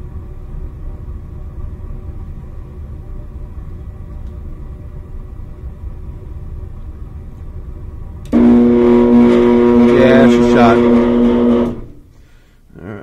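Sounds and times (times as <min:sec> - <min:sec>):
blower motor electrical hum: 0:00.0 - 0:13.0.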